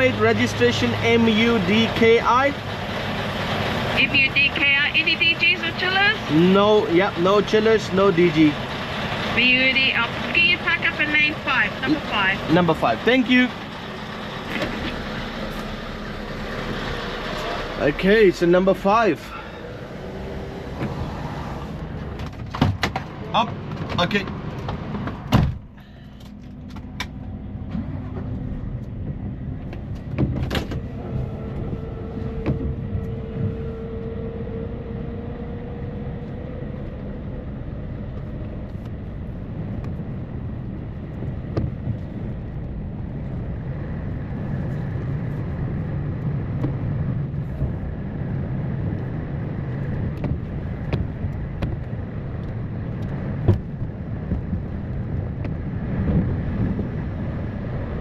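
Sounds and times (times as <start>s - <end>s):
road noise: 0.0s - 58.0s
truck diesel engine rumble: 0.0s - 58.0s.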